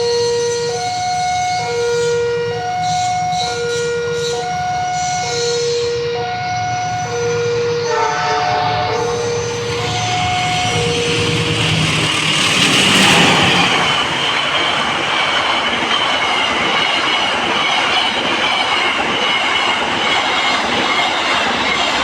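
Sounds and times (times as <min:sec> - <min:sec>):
train wheels rolling on rails: 0:00.0 - 0:22.0
high wheel squeal: 0:02.8 - 0:22.0.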